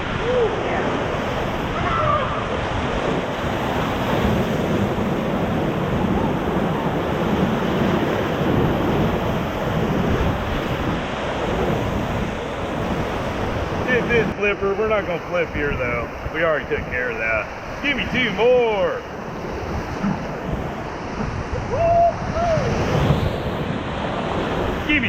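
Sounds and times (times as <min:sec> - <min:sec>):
whitewater rushing: 0:00.0 - 0:25.0
wind buffeting microphone: 0:00.0 - 0:25.0.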